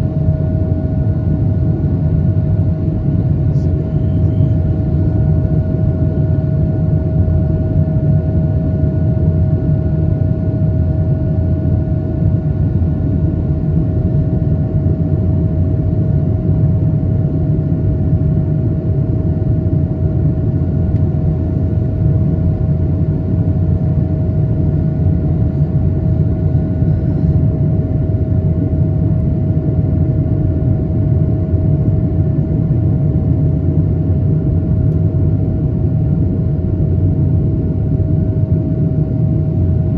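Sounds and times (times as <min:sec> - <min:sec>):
jet engine rumble: 0:00.0 - 0:39.9
steady hum: 0:00.0 - 0:39.9.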